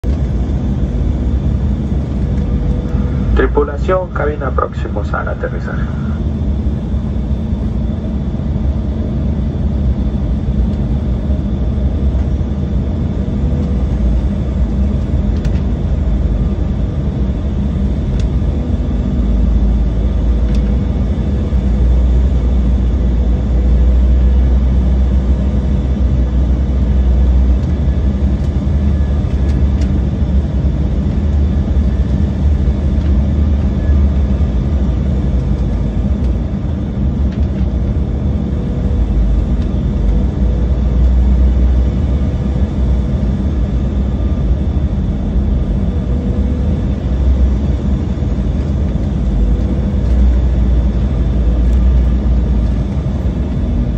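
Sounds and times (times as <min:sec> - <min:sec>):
airliner cabin roar: 0:00.0 - 0:53.9
heavy low rumble: 0:00.0 - 0:53.9
steady whine: 0:00.0 - 0:53.9.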